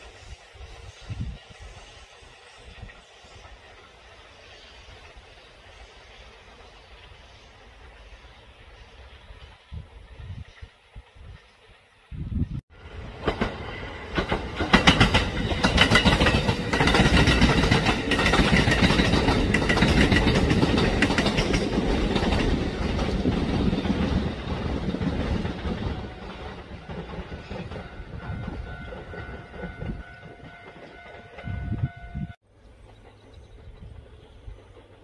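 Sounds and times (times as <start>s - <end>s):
train wheels clicking over rail joints: 0.0s - 35.0s.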